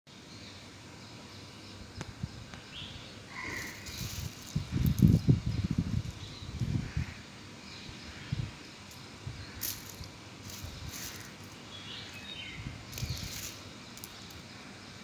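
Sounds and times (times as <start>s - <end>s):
high hissy rustles: 2.1s - 15.0s.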